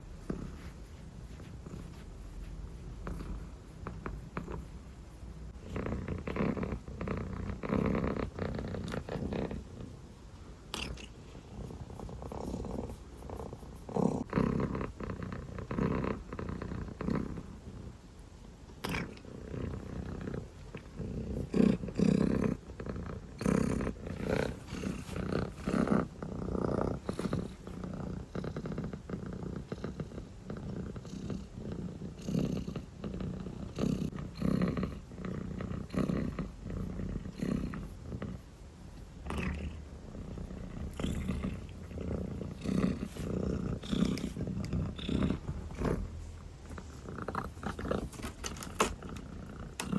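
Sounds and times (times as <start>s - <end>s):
kitten purring: 0.0s - 49.9s.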